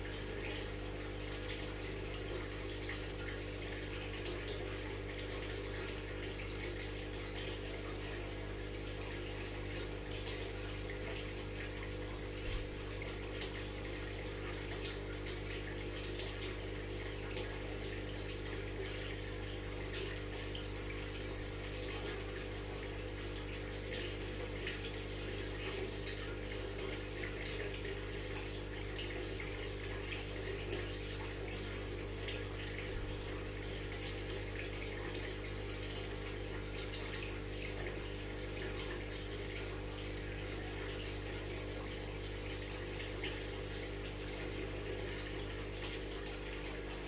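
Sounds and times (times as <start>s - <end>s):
aquarium water trickling and bubbling: 0.0s - 47.0s
tank pump humming: 0.0s - 47.0s.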